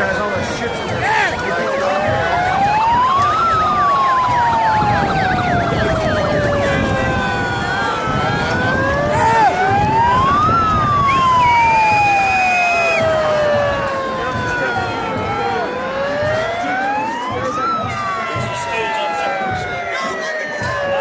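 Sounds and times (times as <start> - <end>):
large outdoor crowd din: 0.0 - 21.0
siren wailing: 0.0 - 21.0.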